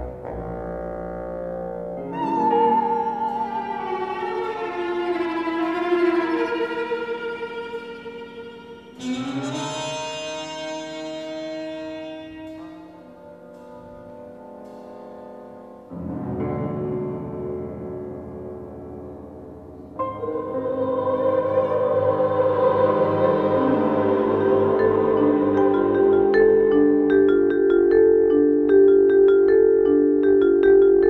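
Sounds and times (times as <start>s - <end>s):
slow classical music: 0.0s - 31.0s.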